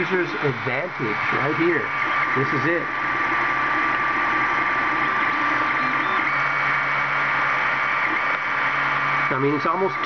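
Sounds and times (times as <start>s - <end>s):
fan whir with high whine: 0.0s - 10.0s
printer motor hum: 0.0s - 10.0s.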